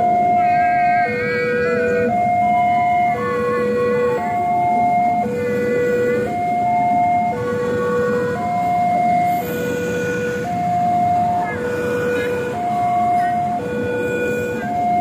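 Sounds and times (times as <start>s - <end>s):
level crossing alarm two-tone: 0.0s - 15.0s
train coaches rumbling past: 0.0s - 15.0s.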